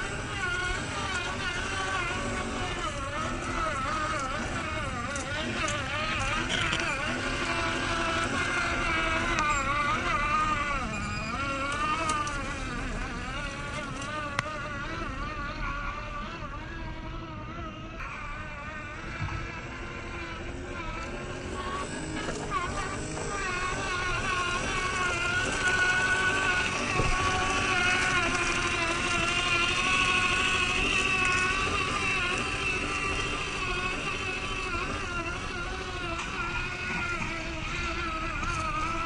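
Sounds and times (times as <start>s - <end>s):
small electric motor whining: 0.0s - 39.0s.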